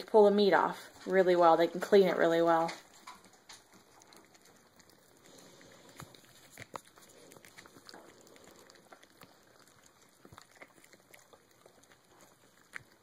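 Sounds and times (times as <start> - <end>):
puppies chewing and licking: 0.0 - 13.0.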